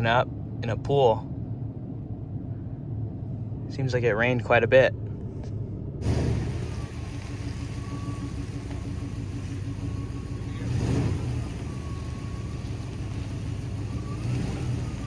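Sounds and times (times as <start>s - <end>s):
truck engine running: 1.3s - 15.0s.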